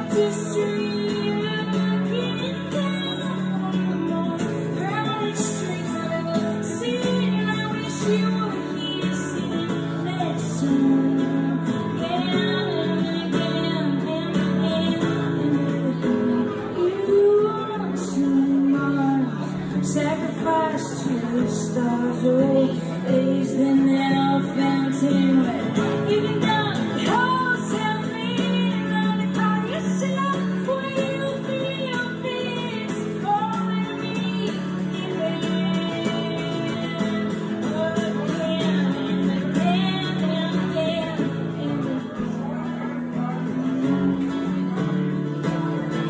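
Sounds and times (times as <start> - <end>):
acoustic guitar strumming: 0.0 - 46.0
person singing: 0.0 - 46.0.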